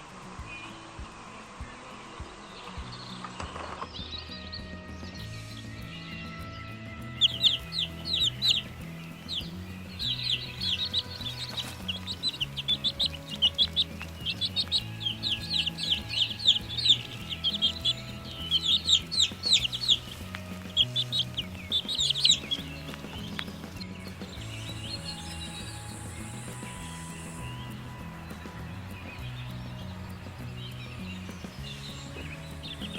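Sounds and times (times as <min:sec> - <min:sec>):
soft background music: 0:00.0 - 0:32.9
chicks peeping: 0:06.4 - 0:32.9.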